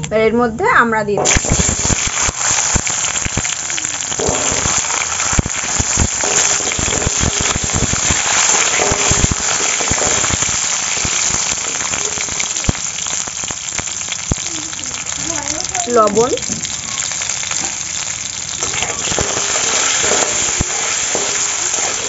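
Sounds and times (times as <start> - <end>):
fruit sizzling in hot oil: 1.2 - 22.0
metal spatula turning food: 1.2 - 22.0
seeds popping and crackling: 1.2 - 22.0.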